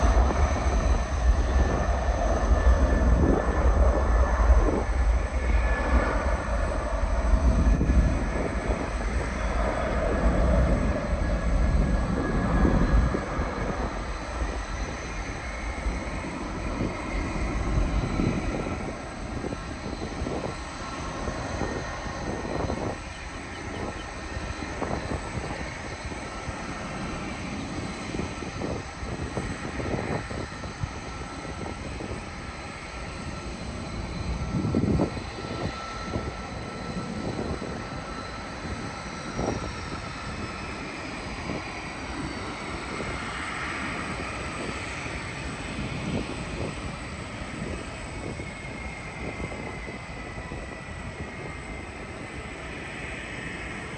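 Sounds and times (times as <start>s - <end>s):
airliner engines rumbling: 0.0s - 53.9s
high engine whine: 0.0s - 53.9s.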